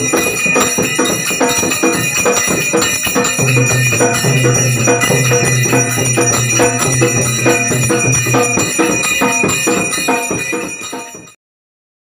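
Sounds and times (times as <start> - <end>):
jingling percussion beat: 0.0 - 11.4
ringing metallic tones: 0.0 - 11.4.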